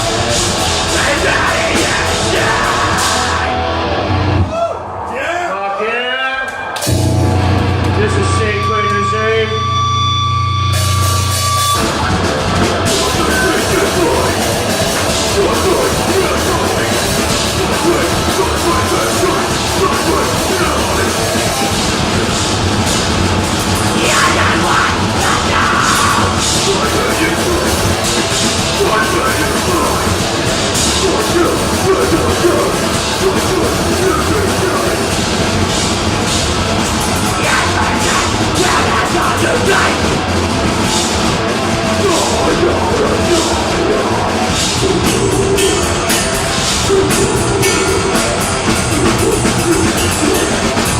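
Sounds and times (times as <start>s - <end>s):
loud metal band playing live: 0.0s - 5.1s, 6.4s - 50.9s
harsh yelled vocals: 0.0s - 9.9s, 10.7s - 50.9s.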